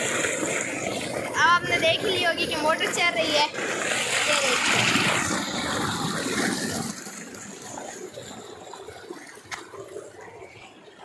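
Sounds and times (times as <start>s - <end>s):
water gushing from pump outlet: 0.0s - 11.0s.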